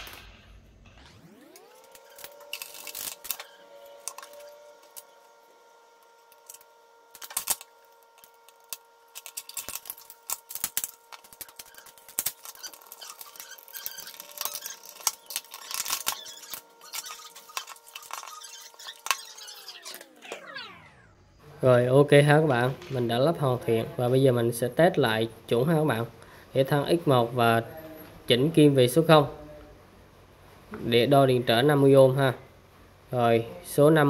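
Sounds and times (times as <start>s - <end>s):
steady humming tone: 0.0s - 30.8s.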